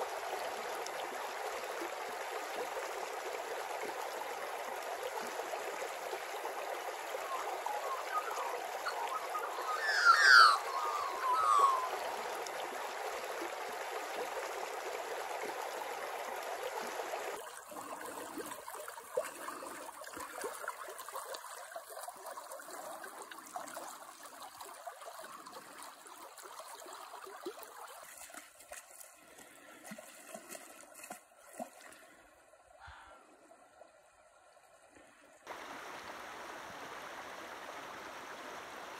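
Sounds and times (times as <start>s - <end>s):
small water splashes: 0.0s - 36.4s
river water trickling over stones: 0.0s - 38.9s.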